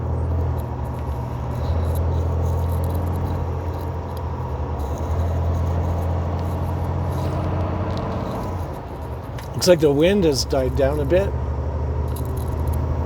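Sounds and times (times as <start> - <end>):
diesel engine drone: 0.0 - 13.0
road noise hiss: 0.0 - 13.0.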